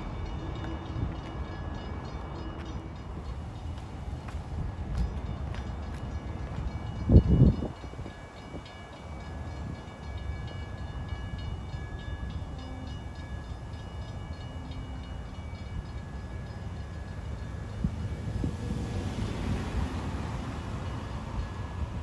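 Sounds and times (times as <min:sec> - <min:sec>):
crossing bell ringing: 0:00.0 - 0:22.0
passenger train rumbling: 0:00.0 - 0:22.0.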